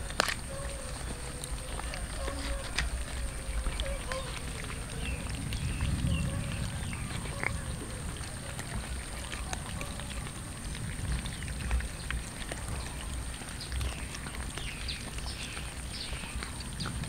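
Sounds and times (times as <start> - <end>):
cats chewing and licking: 0.0 - 17.0
low rumble: 0.8 - 16.0.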